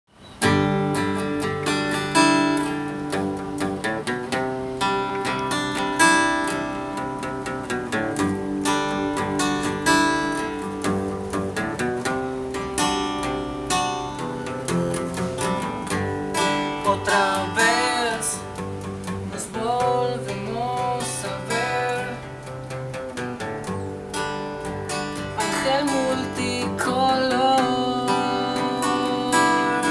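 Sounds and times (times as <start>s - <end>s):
acoustic guitar strumming chords: 0.4s - 29.9s.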